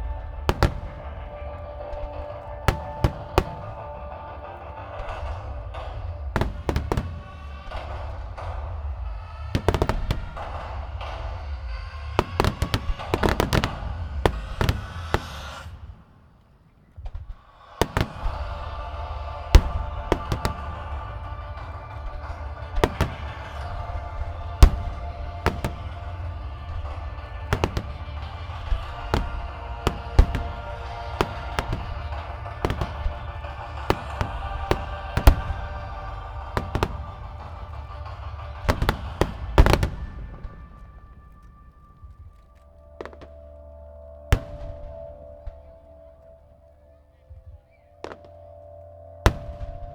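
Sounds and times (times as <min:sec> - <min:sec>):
music playing: 0:00.0 - 0:16.2, 0:17.5 - 0:49.9
fireworks bursting: 0:00.0 - 0:49.9.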